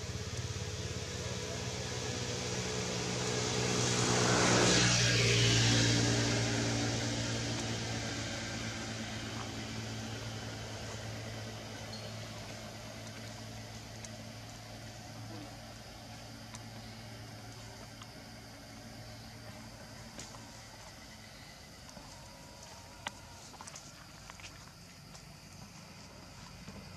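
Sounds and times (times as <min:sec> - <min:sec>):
motor vehicle passing: 0:00.0 - 0:21.9.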